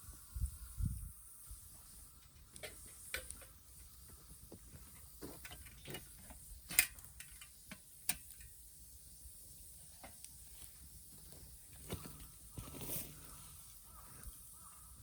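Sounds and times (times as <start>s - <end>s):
wood fire crackling: 1.3s - 15.0s.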